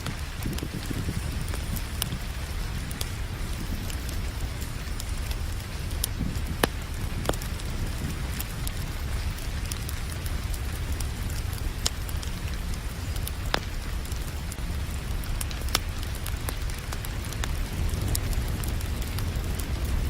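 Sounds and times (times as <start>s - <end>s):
steady rain: 0.0s - 20.0s
wood fire crackling and popping: 0.0s - 20.0s.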